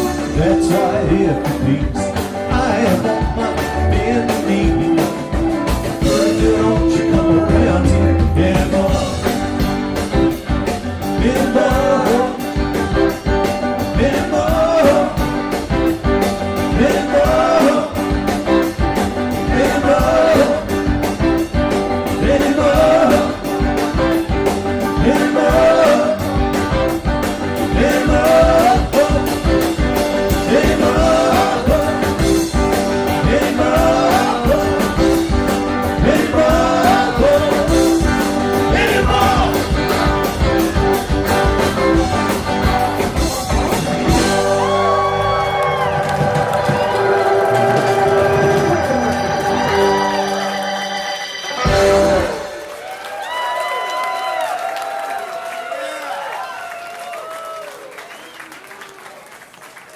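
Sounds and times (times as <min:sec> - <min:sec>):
electric guitar bending notes: 0:00.0 - 0:52.8
live rock band playing: 0:00.0 - 0:54.0.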